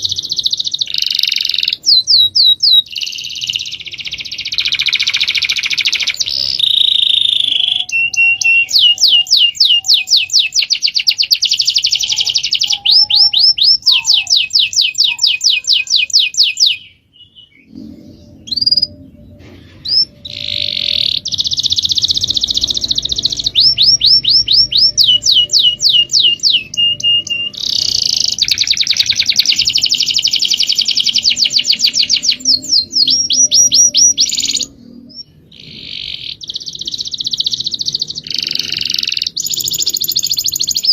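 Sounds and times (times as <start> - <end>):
songbird singing rapid trills: 0.0 - 19.2, 19.9 - 40.9.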